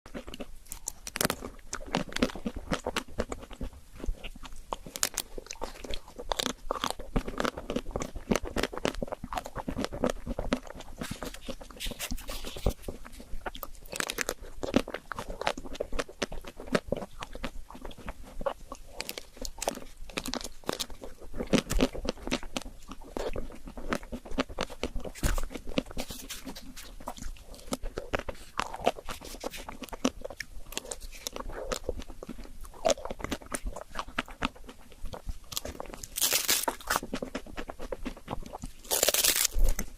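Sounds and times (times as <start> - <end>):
crunchy bites and chewing: 0.1 - 39.9.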